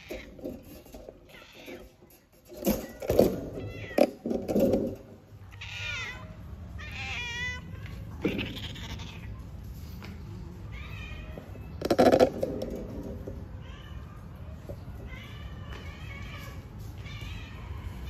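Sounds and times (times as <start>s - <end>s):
cats meowing: 0.0s - 4.6s, 5.3s - 9.6s, 10.4s - 12.1s, 12.7s - 18.0s.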